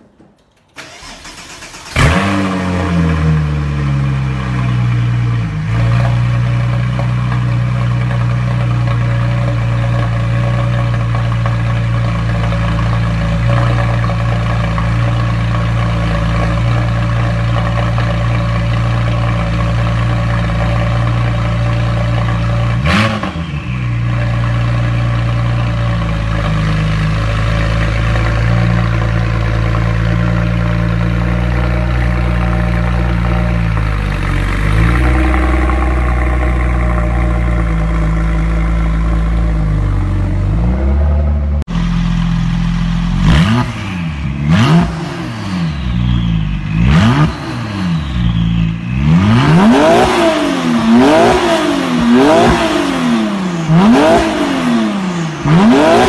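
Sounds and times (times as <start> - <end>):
car engine starting and idling: 0.0 - 56.0.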